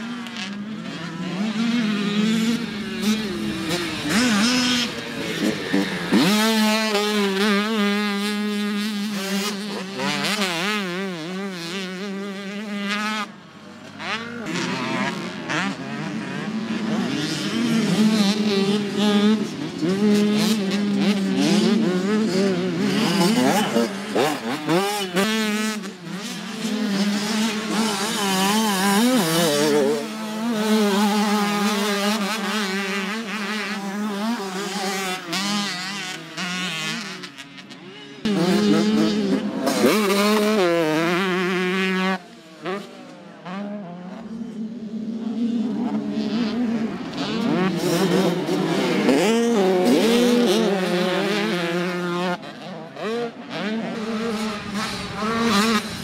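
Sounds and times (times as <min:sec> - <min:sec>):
dirt bike engines racing: 0:00.0 - 0:56.0.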